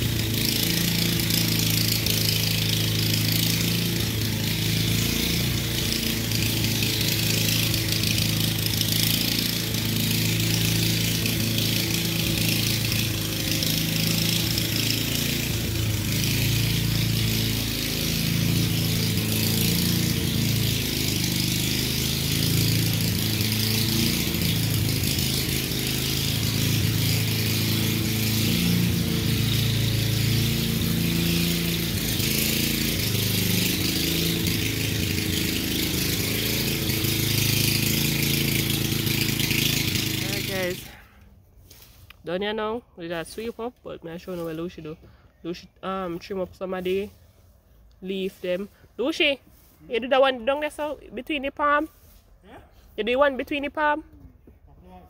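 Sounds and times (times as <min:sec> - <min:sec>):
small engine running: 0:00.0 - 0:52.2, 0:52.9 - 0:54.1.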